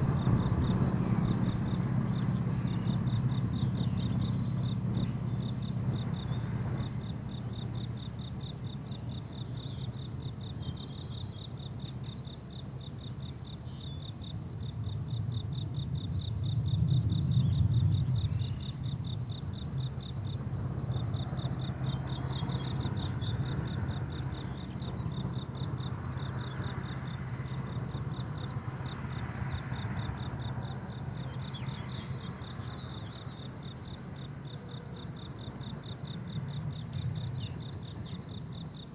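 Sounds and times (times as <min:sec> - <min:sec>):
crickets chirping: 0:00.0 - 0:38.9
low background rumble: 0:00.0 - 0:38.9.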